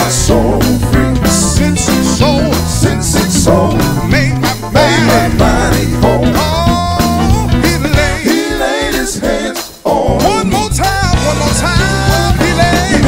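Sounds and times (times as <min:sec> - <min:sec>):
live band playing gospel: 0:00.0 - 0:13.0
man singing lead vocal: 0:00.0 - 0:13.0.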